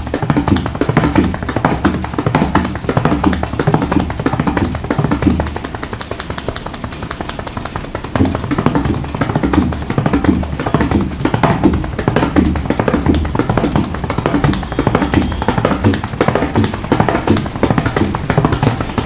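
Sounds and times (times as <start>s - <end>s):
tabla in fast rhythm: 0.0s - 19.0s.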